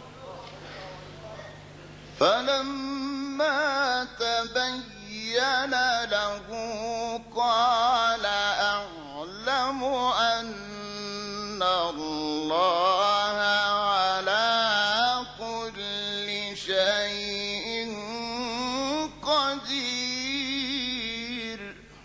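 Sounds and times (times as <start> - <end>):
man reciting melodically: 2.2 - 22.0.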